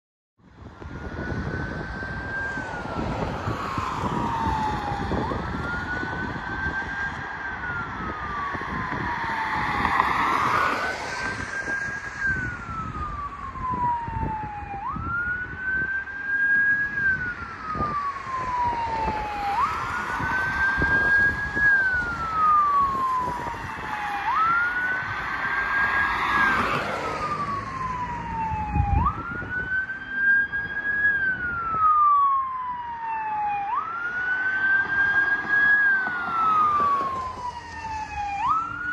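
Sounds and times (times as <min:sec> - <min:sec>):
fire engine siren wailing: 0:00.4 - 0:38.9.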